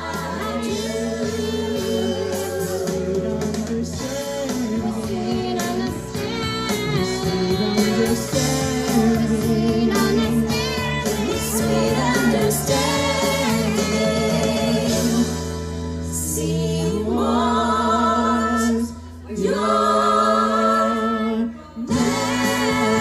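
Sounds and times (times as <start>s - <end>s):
instrumental backing music: 0.0s - 19.9s, 21.8s - 23.0s
man and woman singing duet: 0.0s - 23.0s.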